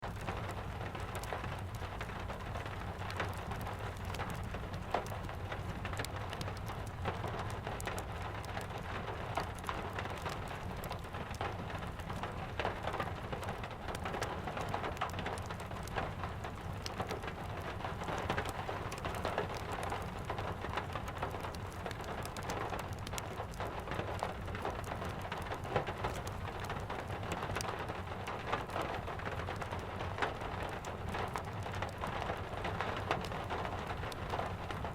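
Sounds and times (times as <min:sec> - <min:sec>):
sharp crackles and pops: 0:00.0 - 0:34.9
steady rain: 0:00.0 - 0:34.9.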